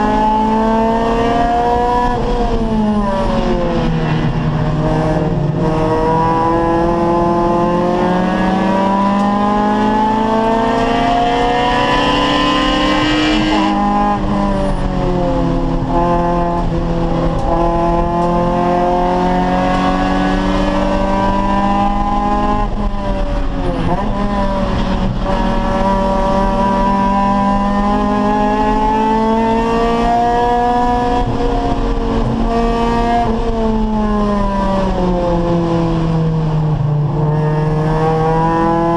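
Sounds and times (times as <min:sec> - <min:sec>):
race car engine accelerating: 0:00.0 - 0:38.9.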